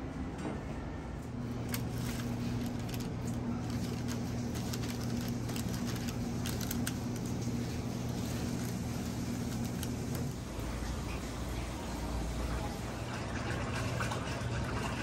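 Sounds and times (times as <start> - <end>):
kitchen equipment humming: 0.0 - 15.0.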